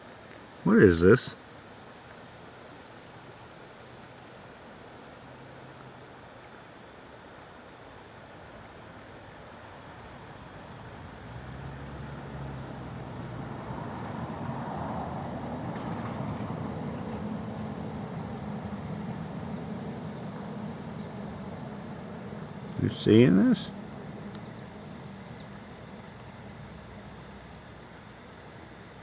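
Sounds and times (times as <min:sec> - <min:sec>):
outdoor hiss: 0:00.0 - 0:12.9, 0:17.2 - 0:29.0
insects trilling: 0:00.0 - 0:29.0.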